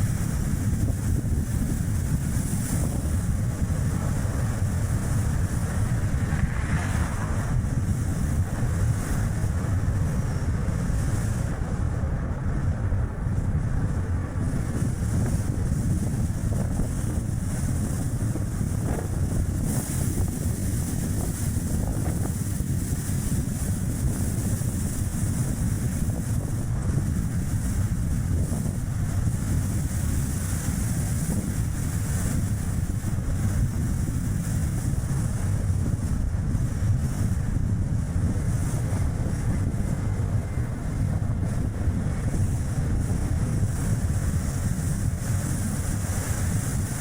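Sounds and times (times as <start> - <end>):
car road and tyre noise: 0.0 - 47.0
wind buffeting microphone: 0.0 - 47.0.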